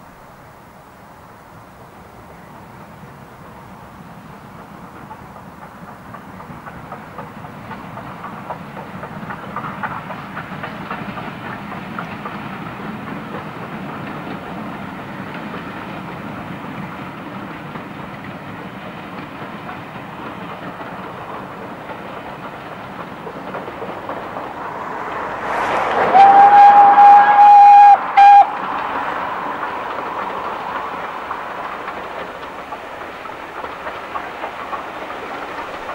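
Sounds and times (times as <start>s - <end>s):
steam locomotive chuffing: 1.8s - 35.9s
wheels rattling on rails: 1.8s - 35.9s.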